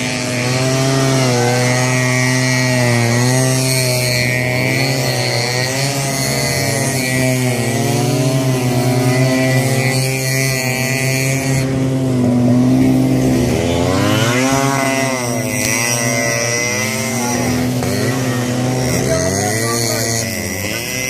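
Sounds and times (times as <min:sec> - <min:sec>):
two-stroke motorcycles revving: 0:00.0 - 0:21.0.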